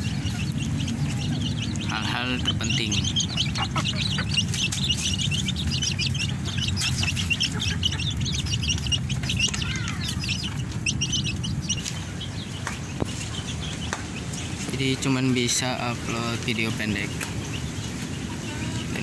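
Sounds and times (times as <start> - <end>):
chicks peeping: 0.0 - 19.0
steady low rumble: 0.0 - 19.0.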